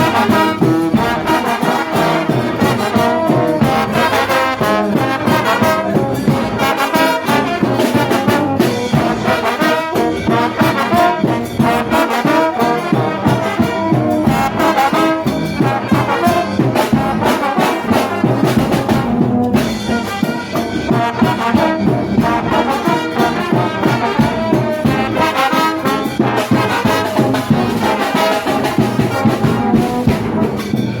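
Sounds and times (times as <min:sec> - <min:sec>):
brass band playing over a beat: 0:00.0 - 0:31.0.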